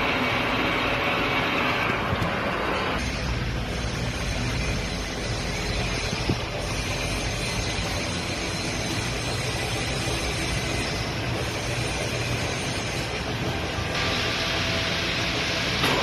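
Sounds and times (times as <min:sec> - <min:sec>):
metal lathe droning: 0:00.0 - 0:16.0.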